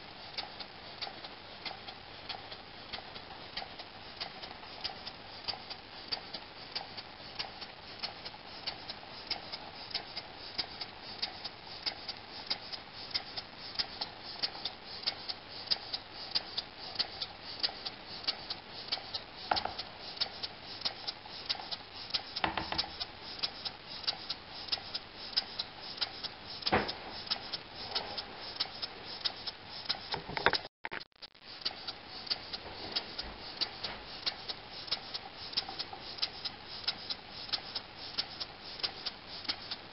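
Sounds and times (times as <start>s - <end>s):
model steam engine ticking: 0.0s - 30.2s, 33.4s - 39.8s.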